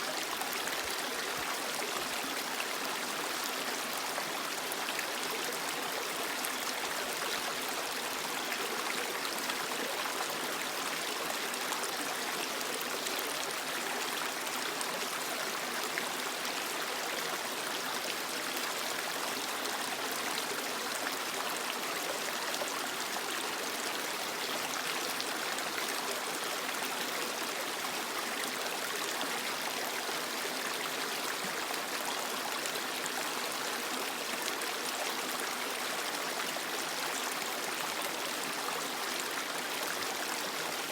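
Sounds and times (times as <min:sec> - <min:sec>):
creek flowing over rocks: 0:00.0 - 0:40.9.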